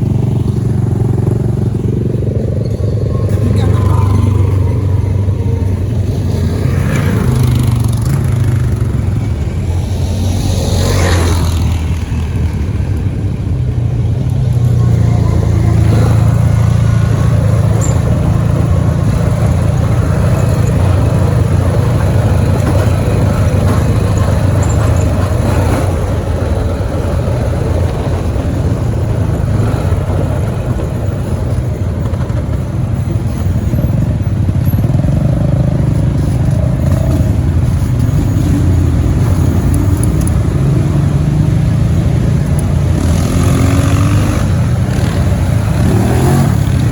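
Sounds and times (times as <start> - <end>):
atv engine running: 0.0 - 46.9.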